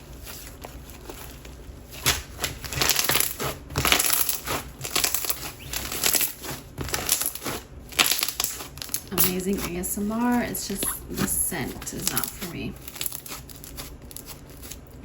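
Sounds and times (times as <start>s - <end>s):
slime squishing: 0.0s - 15.0s.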